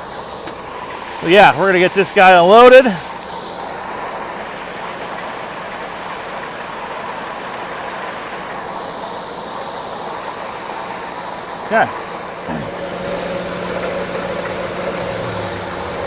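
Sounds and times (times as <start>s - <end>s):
continuous high hiss: 0.0s - 16.0s
grain-handling machinery running: 0.0s - 16.0s.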